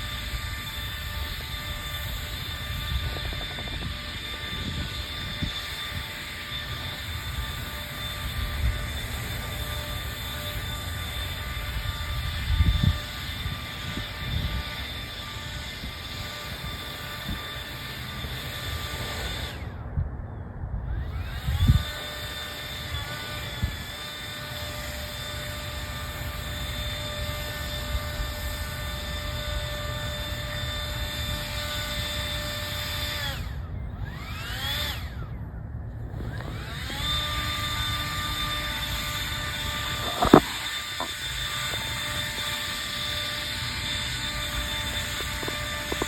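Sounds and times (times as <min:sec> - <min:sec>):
snow blower engine whining: 0:00.0 - 0:19.8, 0:21.0 - 0:46.0.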